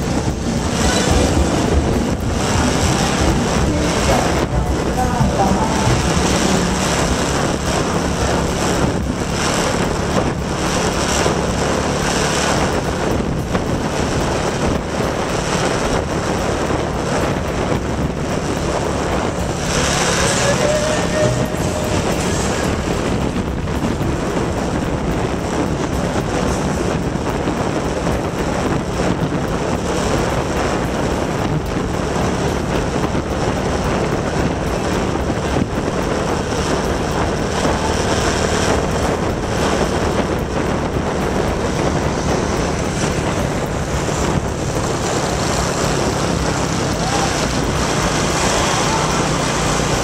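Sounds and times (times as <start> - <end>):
motorbike engine hum: 0.0 - 50.0
road noise: 0.0 - 50.0
wind on microphone: 0.0 - 50.0.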